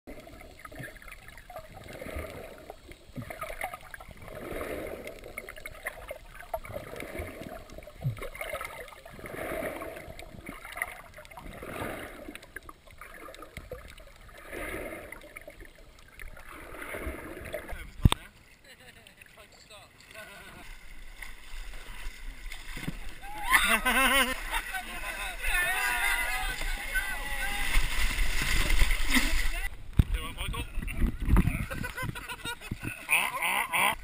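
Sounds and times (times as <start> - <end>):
muffled underwater river gurgling: 0.1 - 34.0.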